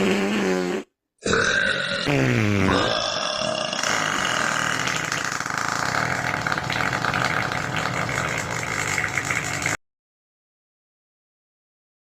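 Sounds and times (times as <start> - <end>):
long buzzy fart: 0.0 - 9.8.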